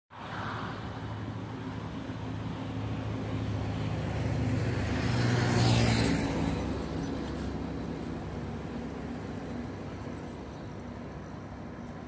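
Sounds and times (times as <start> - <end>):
vehicle passing by: 0.1 - 12.0.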